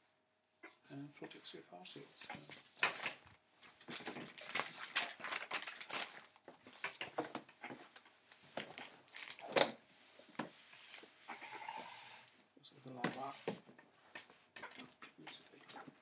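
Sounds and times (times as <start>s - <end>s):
rustling and crinkling: 1.9s - 16.0s.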